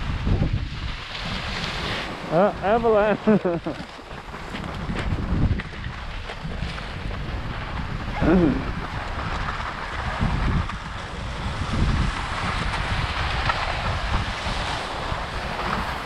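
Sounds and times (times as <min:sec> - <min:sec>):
skis scraping over snow: 0:00.0 - 0:16.0
wind buffeting microphone: 0:00.0 - 0:16.0.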